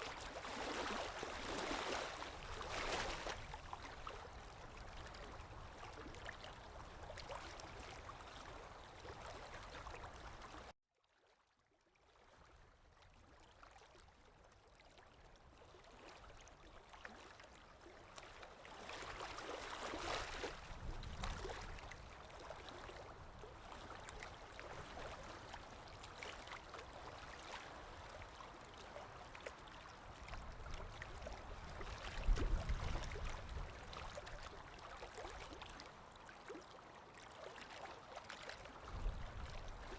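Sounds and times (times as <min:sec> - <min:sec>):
stream water gurgling: 0:00.0 - 0:10.7, 0:14.7 - 0:39.9.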